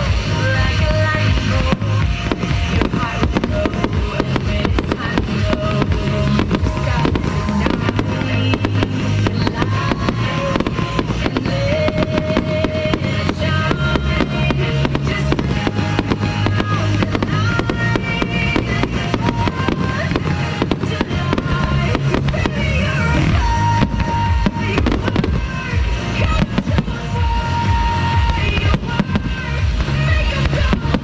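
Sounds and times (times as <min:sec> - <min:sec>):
fireworks bursting and popping: 0:00.0 - 0:31.0
music with gliding notes: 0:00.0 - 0:31.0.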